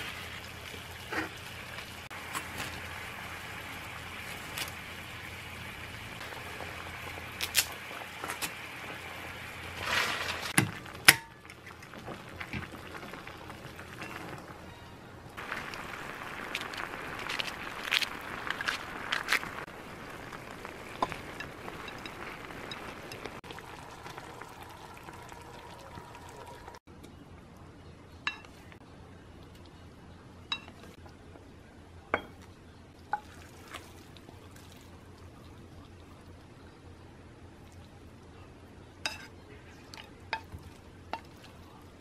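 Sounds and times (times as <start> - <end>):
food simmering in frying pan: 0.0 - 26.9, 33.0 - 42.0.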